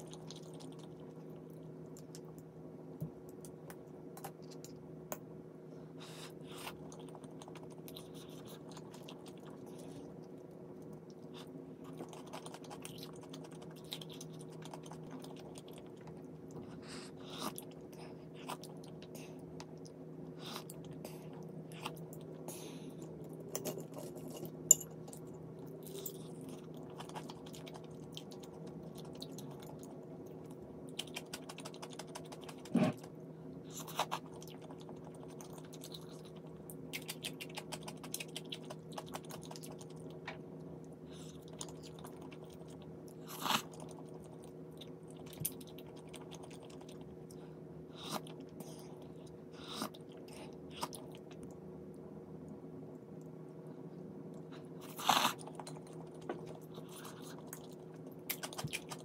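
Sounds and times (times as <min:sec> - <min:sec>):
chewing food: 0:00.0 - 0:04.9, 0:06.4 - 0:59.0
steady low hum: 0:00.0 - 0:59.0.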